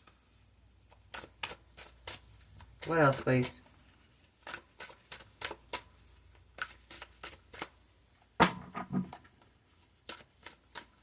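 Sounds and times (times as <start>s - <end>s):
cards being shuffled: 0.8s - 7.9s, 9.0s - 11.0s.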